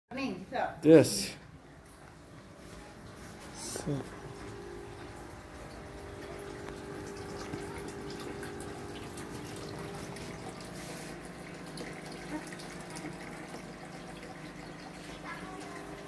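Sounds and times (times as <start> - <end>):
water running: 0.2 - 16.0
steady hum: 0.9 - 15.8.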